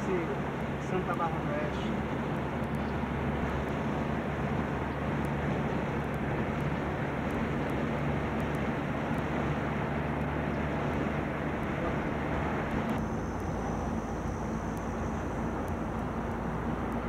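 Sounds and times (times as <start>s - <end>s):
car road and engine noise: 0.0s - 17.0s
low hum: 0.0s - 17.0s.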